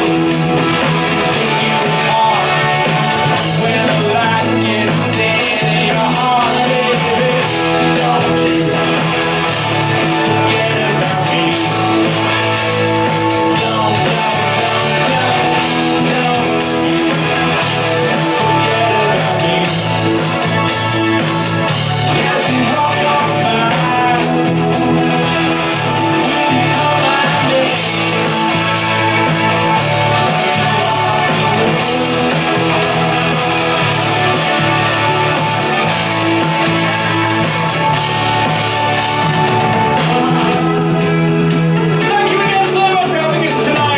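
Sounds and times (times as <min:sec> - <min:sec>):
bass guitar: 0:00.0 - 0:43.9
drums: 0:00.0 - 0:43.9
electric guitar: 0:00.0 - 0:43.9
lead singer singing: 0:00.0 - 0:43.9.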